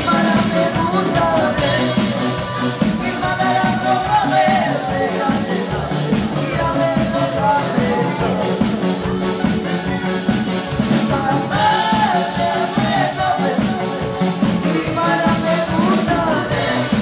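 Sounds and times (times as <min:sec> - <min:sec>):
man singing into microphone: 0:00.0 - 0:09.6, 0:10.7 - 0:17.0
drum kit: 0:00.0 - 0:17.0
electric bass: 0:00.0 - 0:17.0
electric guitar: 0:00.0 - 0:17.0
keyboards: 0:00.0 - 0:17.0.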